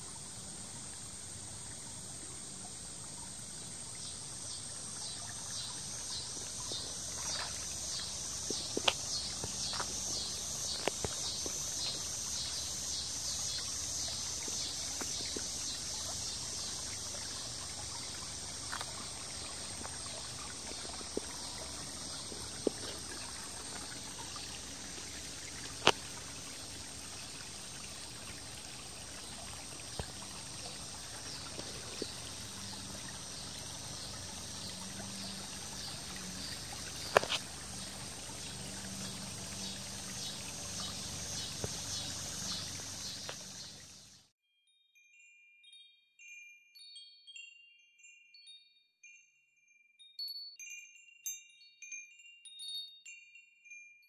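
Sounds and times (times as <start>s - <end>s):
insects trilling: 0.0s - 44.2s
water trickling over rocks: 0.0s - 44.3s.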